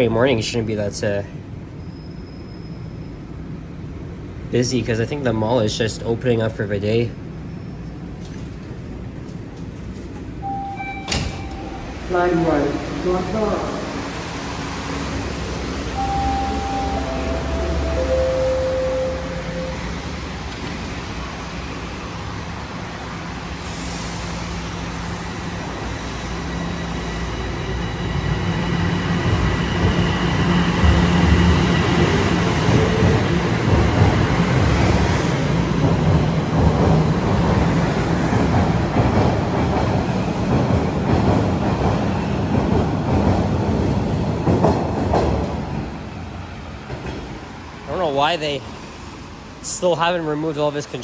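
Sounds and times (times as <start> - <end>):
train wheels rumbling on rail: 0.6 - 51.0.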